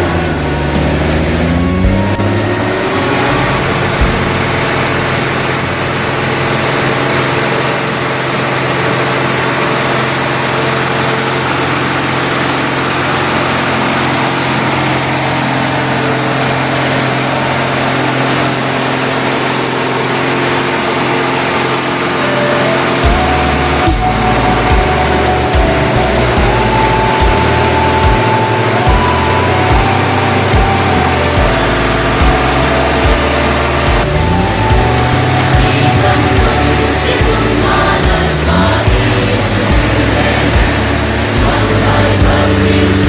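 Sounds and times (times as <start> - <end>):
road noise: 0.0 - 43.0
truck diesel engine droning: 0.0 - 43.0.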